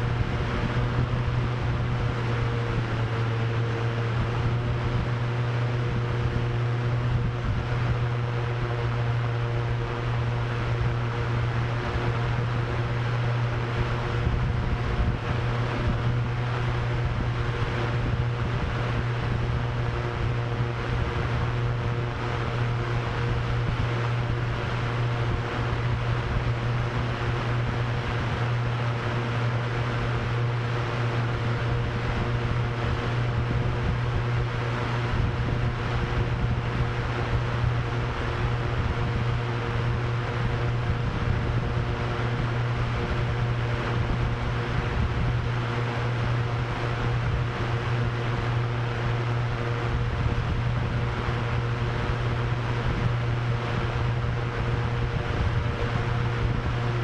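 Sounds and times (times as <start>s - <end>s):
drone propellers humming: 0.0s - 57.0s
gusting wind: 0.0s - 57.0s.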